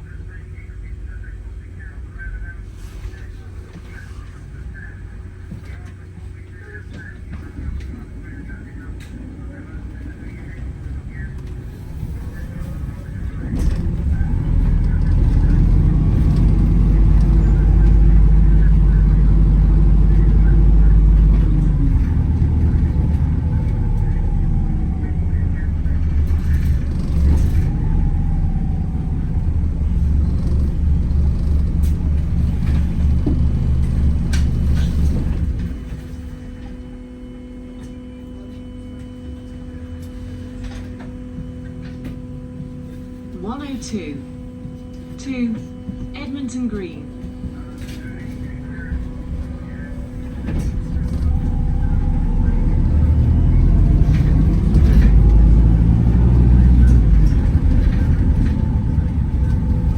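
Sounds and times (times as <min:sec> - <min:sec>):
bus engine rumble: 0:00.0 - 0:59.9
faint whine: 0:00.0 - 0:59.9.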